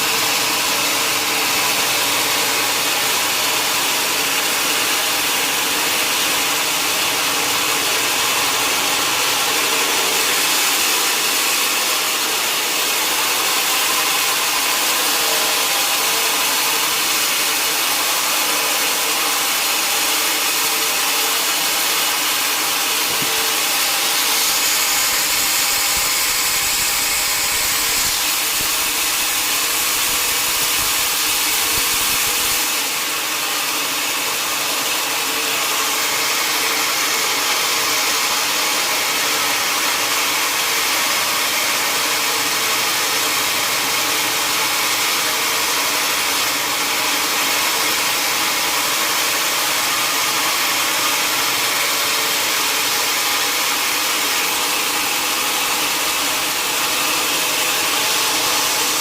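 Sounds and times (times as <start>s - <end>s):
sawmill saw whirring: 0.0s - 59.0s.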